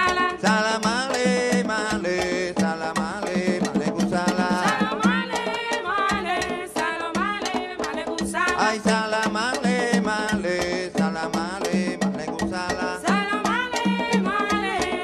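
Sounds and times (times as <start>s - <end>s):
conga drums: 0.0s - 15.0s
voices singing: 0.0s - 15.0s.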